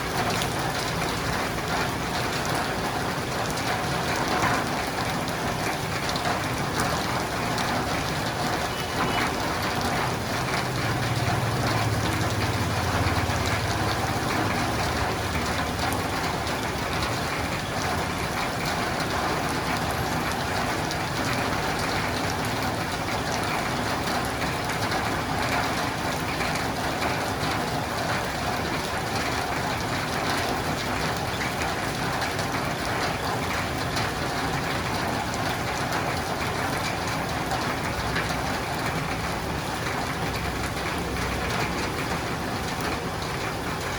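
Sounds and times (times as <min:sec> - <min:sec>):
rain on a roof and windows: 0:00.0 - 0:43.9.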